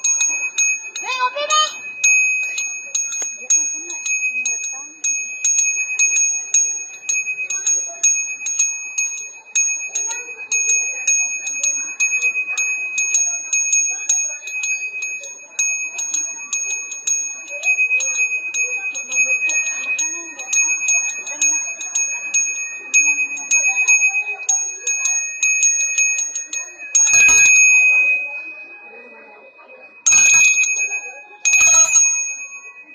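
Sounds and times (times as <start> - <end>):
hand bell ringing: 0.0 - 32.9.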